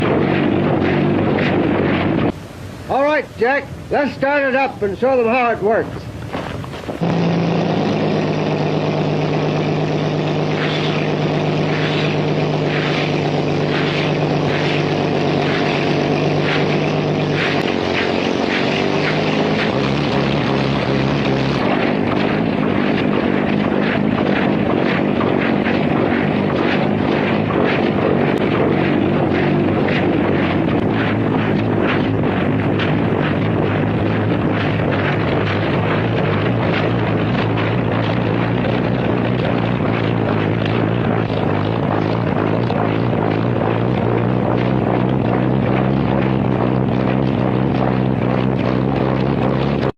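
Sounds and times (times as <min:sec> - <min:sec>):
propeller engine running: 0:00.0 - 0:49.9.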